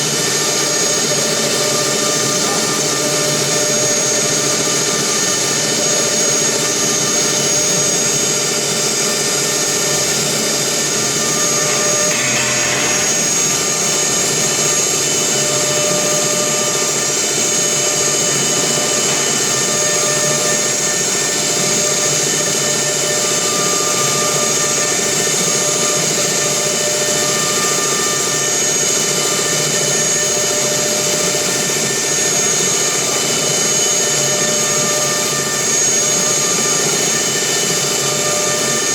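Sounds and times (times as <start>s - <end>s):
mechanical hum: 0.0s - 38.9s
router spindle whining: 0.0s - 38.9s.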